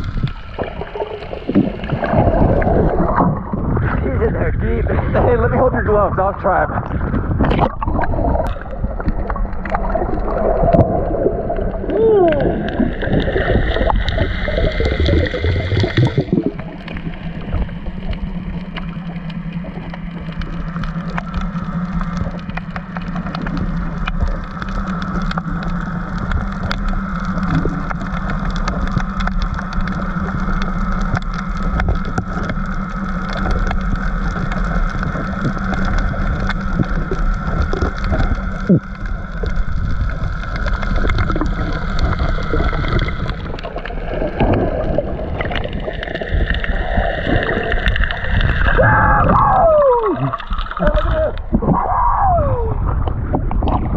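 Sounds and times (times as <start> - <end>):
boat engine drone underwater: 0.0 - 53.9
underwater bubbling and gurgling: 0.0 - 53.9.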